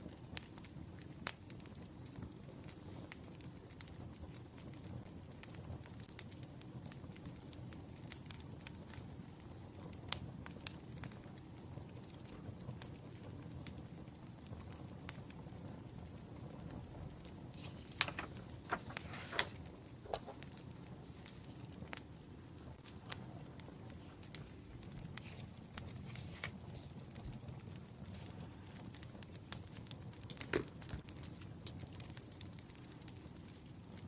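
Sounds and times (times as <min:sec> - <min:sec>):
wood fire crackling and popping: 0:00.0 - 0:34.0
fire low rumble: 0:00.1 - 0:34.0.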